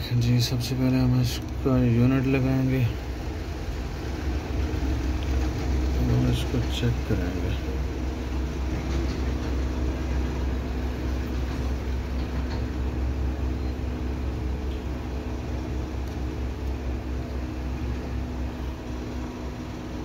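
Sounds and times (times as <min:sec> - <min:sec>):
low rumble and hum: 0:00.0 - 0:20.0.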